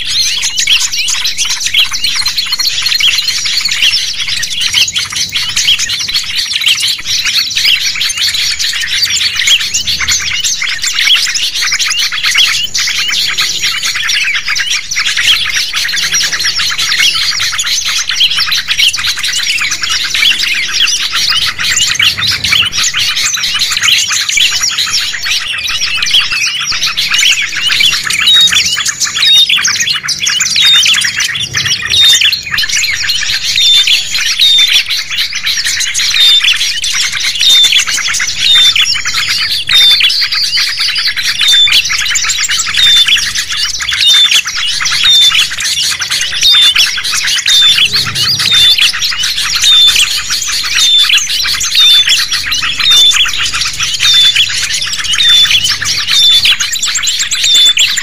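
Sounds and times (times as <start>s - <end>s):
songbirds chirping chorus: 0.0s - 58.0s.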